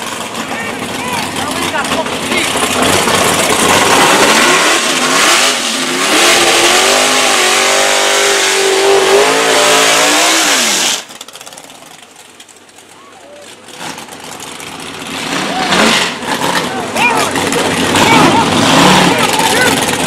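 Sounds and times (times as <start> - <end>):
racing car engines accelerating: 0.0 - 11.2, 13.5 - 20.0.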